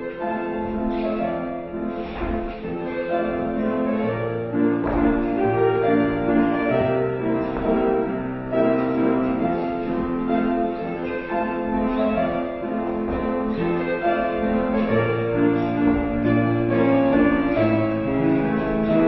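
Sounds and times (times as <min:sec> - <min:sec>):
classical piano music: 0:00.0 - 0:19.0.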